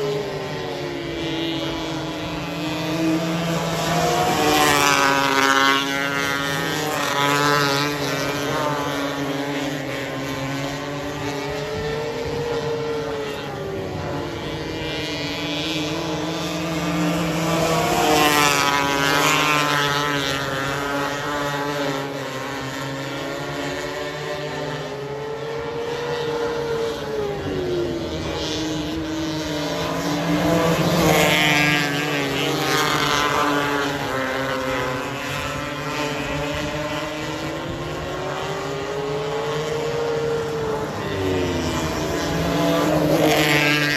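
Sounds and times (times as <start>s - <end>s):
car passing close by: 0.0s - 43.9s
racing car engines: 0.0s - 43.9s.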